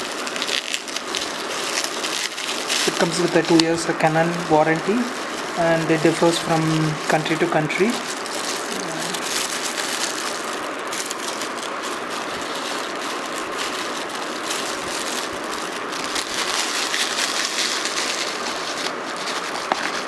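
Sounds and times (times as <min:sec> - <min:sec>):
bubble packaging crinkling: 0:00.0 - 0:20.0.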